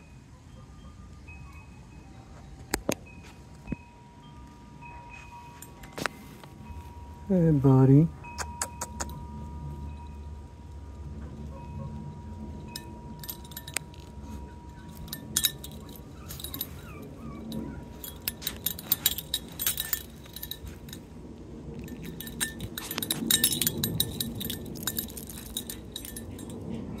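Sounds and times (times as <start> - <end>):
faint steady tone: 0.0 - 27.0.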